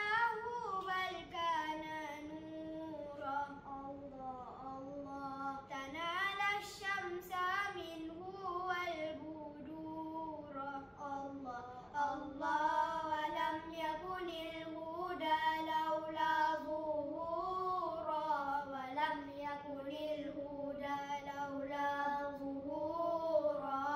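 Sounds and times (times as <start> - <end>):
boys singing devotional verses: 0.0 - 23.9.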